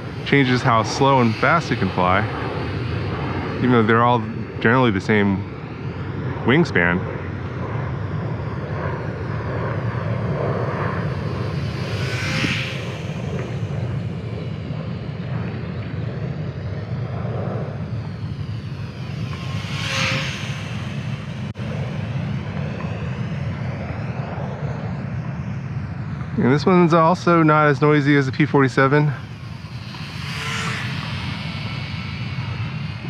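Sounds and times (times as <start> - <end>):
low rumble: 0.0 - 33.0
model plane propeller buzzing: 0.0 - 33.0.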